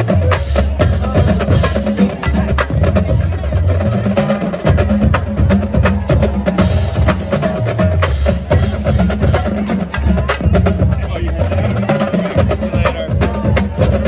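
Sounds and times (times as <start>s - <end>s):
marching band music: 0.0s - 14.0s.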